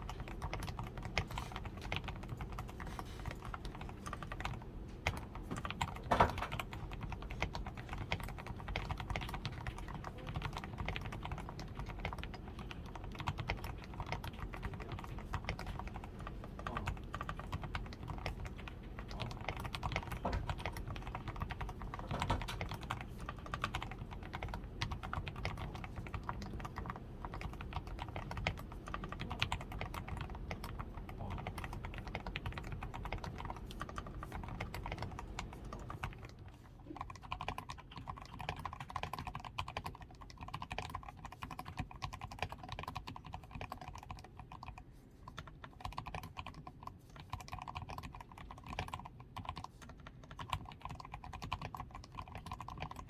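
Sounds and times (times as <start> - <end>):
typing on mechanical keyboard: 0.0 - 53.0.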